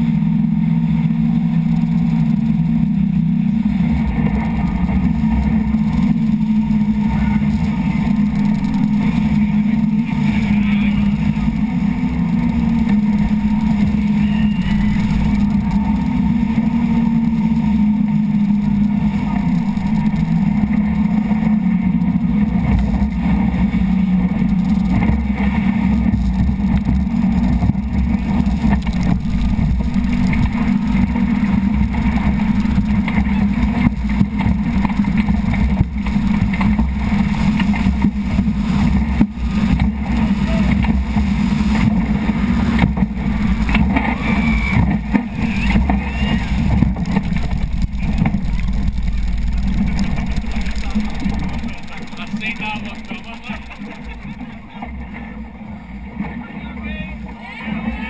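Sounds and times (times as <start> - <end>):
boat engine drone: 0.0 - 58.0
rushing wind and water: 0.0 - 58.0
hull knocking on waves: 1.9 - 58.0.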